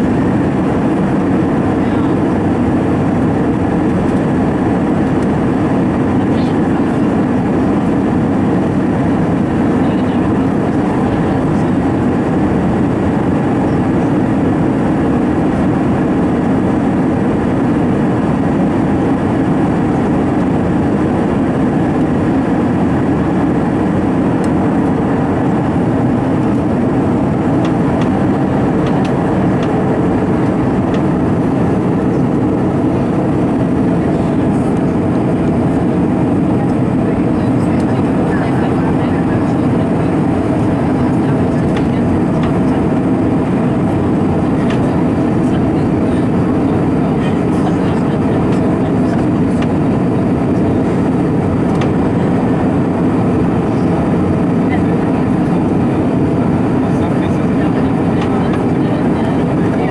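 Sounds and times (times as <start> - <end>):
airflow rush: 0.0 - 59.9
jet engine hum: 0.0 - 59.9.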